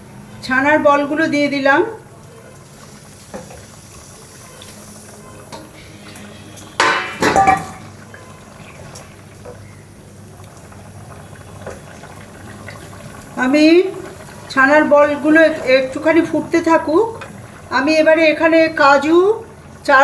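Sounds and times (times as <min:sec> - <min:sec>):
curry simmering: 0:01.4 - 0:20.0.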